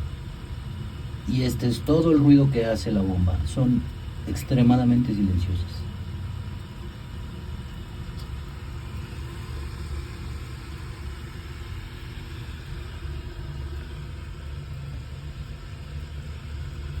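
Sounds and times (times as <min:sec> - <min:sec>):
faint water flow hiss: 0:00.0 - 0:17.0
water pump humming: 0:00.0 - 0:17.0.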